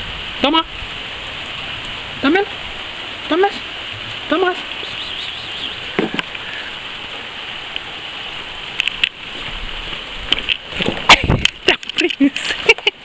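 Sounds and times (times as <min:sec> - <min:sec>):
falling rain hiss: 0:00.0 - 0:13.0.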